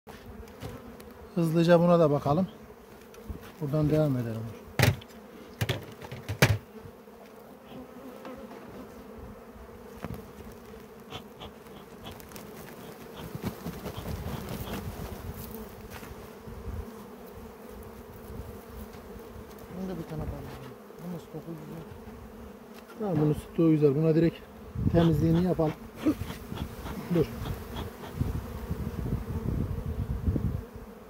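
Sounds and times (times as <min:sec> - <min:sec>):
honeybees buzzing: 0:00.1 - 0:31.0.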